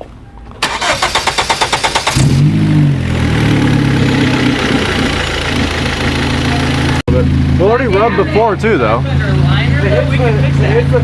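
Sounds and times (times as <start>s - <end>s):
car engine starting and idling: 0.6s - 10.4s.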